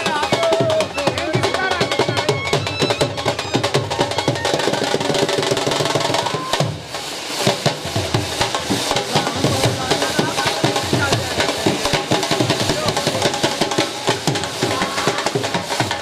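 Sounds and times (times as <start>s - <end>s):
drums played in rapid strokes: 0.0s - 16.0s.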